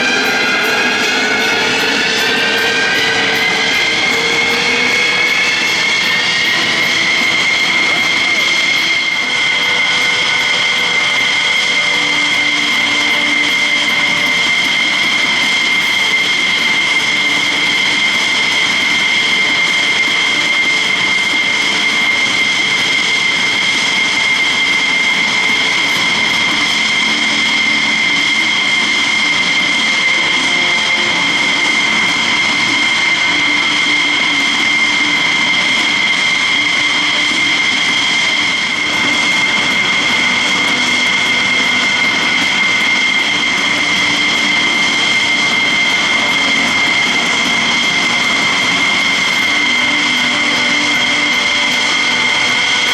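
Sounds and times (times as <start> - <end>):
jet engines idling with whine: 0.0 - 52.9.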